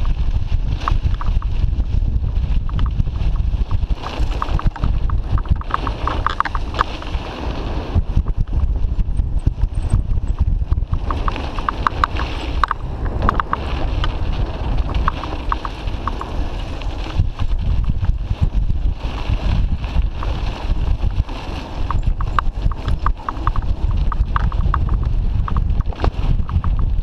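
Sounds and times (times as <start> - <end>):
bike rattles and clicks: 0.0 - 27.0
tyres rumbling over dirt: 0.0 - 27.0
wind rushing over microphone: 0.0 - 27.0.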